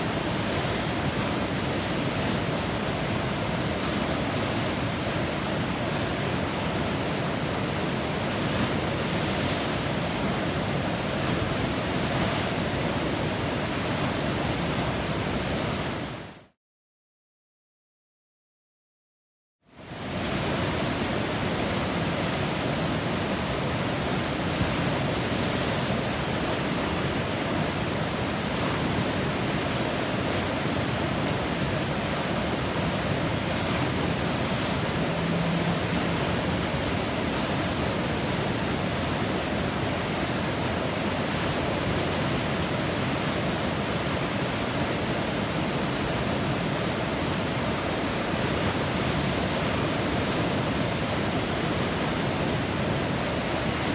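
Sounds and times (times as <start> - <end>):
river rapid rushing: 0.0 - 16.4, 19.8 - 53.9.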